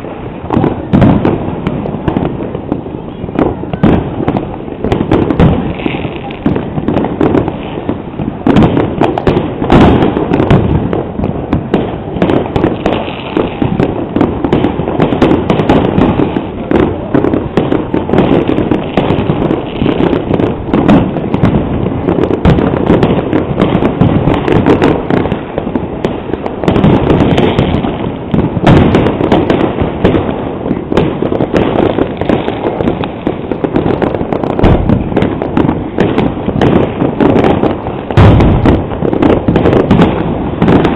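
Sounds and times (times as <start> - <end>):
fireworks cracking and booming: 0.0 - 40.9.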